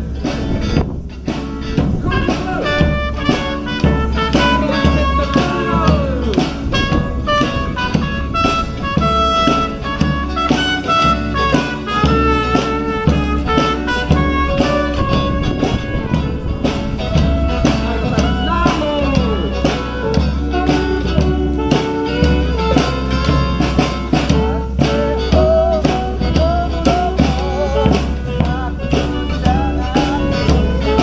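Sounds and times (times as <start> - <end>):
live band playing: 0.0 - 31.0.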